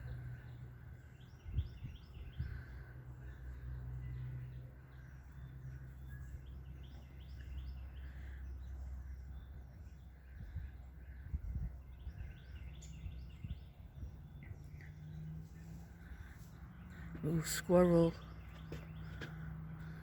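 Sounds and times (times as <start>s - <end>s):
steady low rumble: 0.0s - 20.0s
wild birds chirping: 0.0s - 20.0s.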